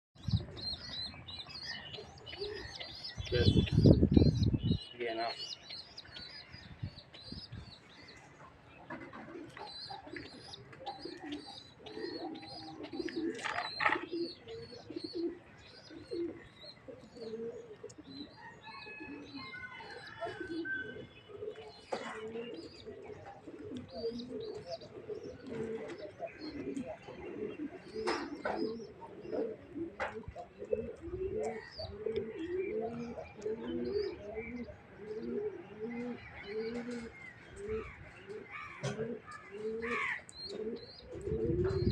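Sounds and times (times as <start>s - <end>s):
birds cooing: 0.2s - 41.9s.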